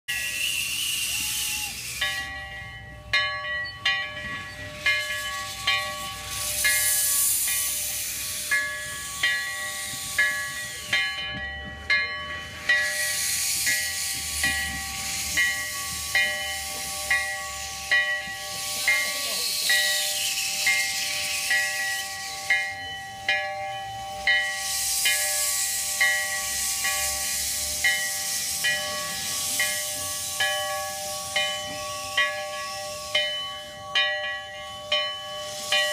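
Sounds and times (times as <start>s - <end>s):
steam hissing: 0.1s - 35.9s
steam locomotive bell ringing: 0.1s - 35.9s.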